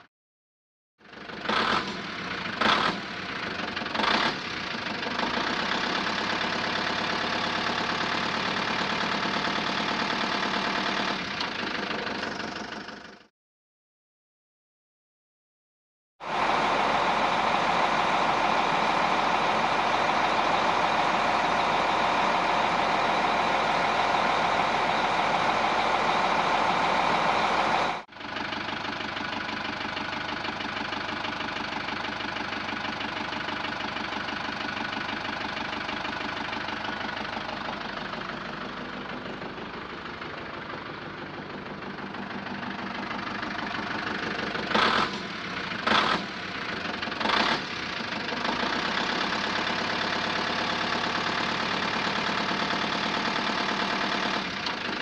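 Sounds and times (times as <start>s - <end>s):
quieter engine running: 1.0s - 13.3s, 16.2s - 55.0s
vehicle engine running: 1.0s - 13.3s, 16.2s - 55.0s.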